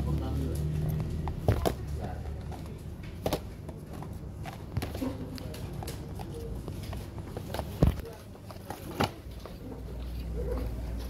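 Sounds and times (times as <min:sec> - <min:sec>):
background murmur: 0:00.0 - 0:11.0.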